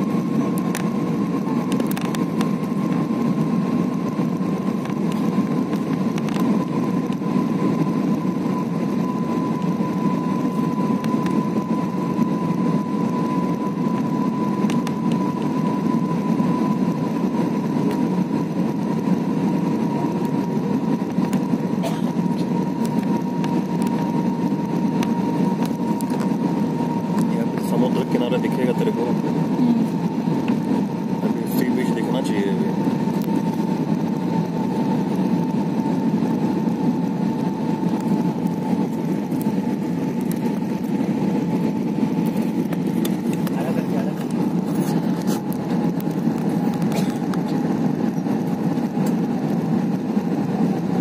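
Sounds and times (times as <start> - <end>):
jet engine and airflow rumble: 0.0 - 51.0
steady whine: 0.0 - 51.0.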